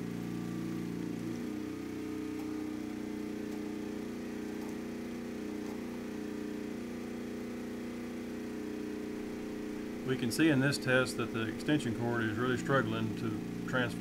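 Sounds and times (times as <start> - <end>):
generator engine running: 0.0 - 14.0.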